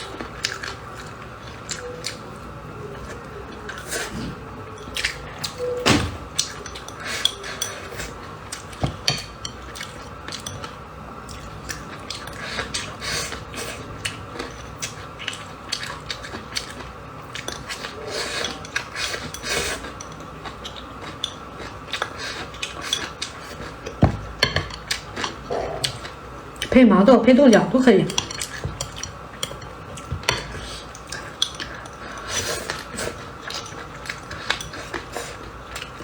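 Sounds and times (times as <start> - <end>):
chewing: 0.0 - 5.7, 6.3 - 24.0, 24.6 - 26.8, 28.1 - 36.0.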